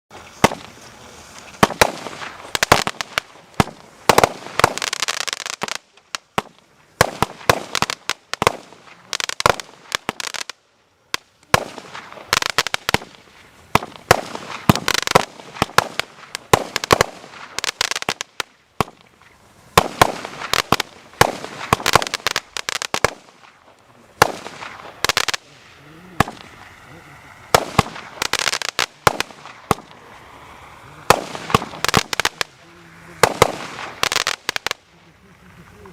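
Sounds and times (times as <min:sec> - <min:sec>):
fireworks bangs: 0:00.1 - 0:35.0
fireworks crackling: 0:00.1 - 0:35.9.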